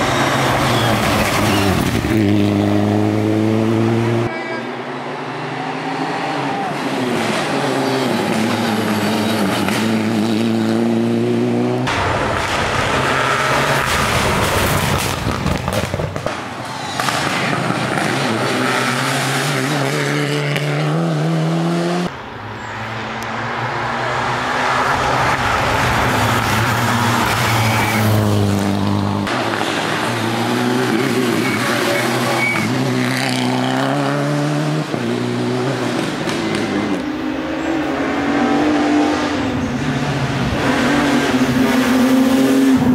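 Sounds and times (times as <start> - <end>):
rally car engines revving hard: 0.0 - 4.3, 5.4 - 16.0, 17.0 - 22.1, 23.1 - 42.9.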